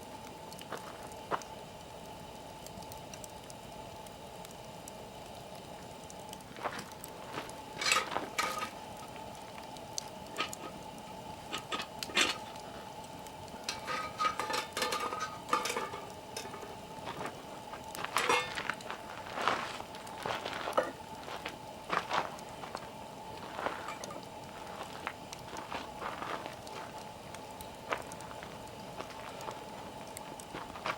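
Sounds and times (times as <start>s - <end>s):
campfire crackling and popping: 0.0s - 30.9s
low hiss: 0.0s - 30.9s.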